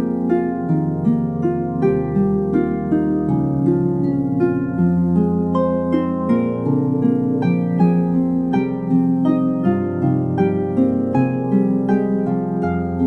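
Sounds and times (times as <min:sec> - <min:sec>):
lyre plucked melody: 0:00.0 - 0:13.0.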